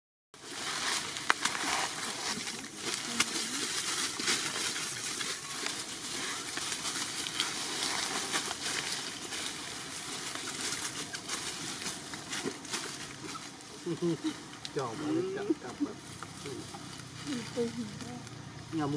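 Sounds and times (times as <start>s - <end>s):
small crackles and ticks: 0.4s - 18.9s.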